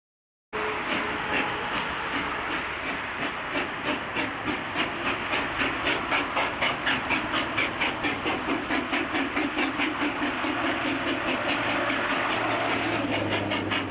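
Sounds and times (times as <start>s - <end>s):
steam hissing: 0.6s - 13.9s
steam locomotive chuffing: 0.6s - 13.9s.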